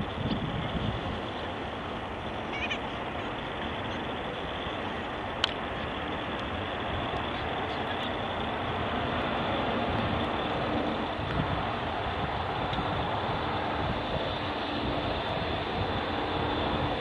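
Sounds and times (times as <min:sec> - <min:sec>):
high whine: 0:00.0 - 0:17.0
jet engines rushing: 0:00.0 - 0:17.0.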